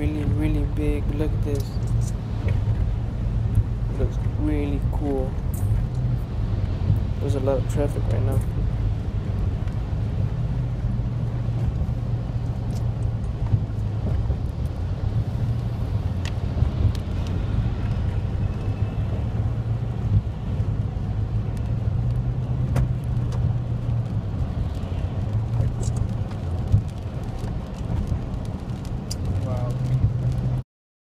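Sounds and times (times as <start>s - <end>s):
car engine and tyre drone: 0.0s - 30.6s.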